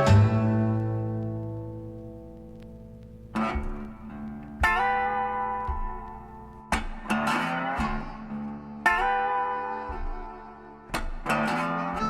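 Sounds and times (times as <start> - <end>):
guitar chords plucked: 0.0 - 12.0.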